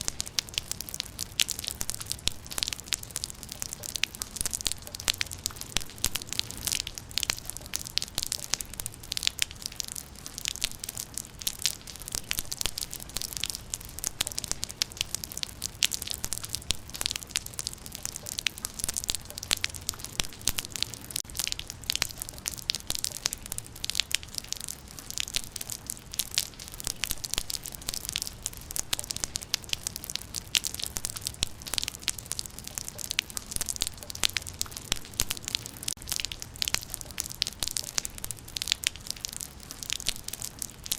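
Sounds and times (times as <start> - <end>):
rain drops spattering: 0.0 - 40.9.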